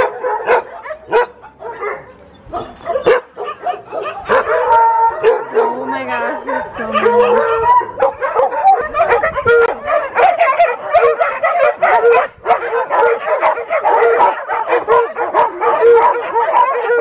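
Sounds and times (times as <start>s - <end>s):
many dogs barking: 0.0s - 17.0s.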